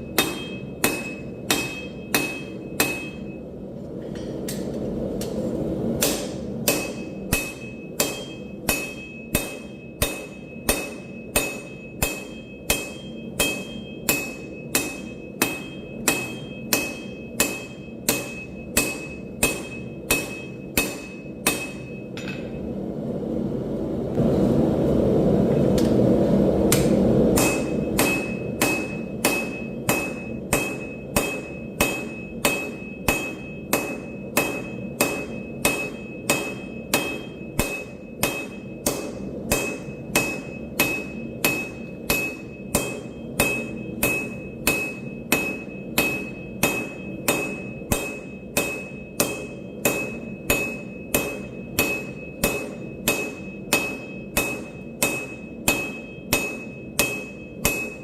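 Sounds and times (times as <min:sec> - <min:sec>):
hammer striking steel on anvil: 0:00.0 - 0:03.5, 0:06.0 - 0:22.7, 0:26.7 - 0:58.0.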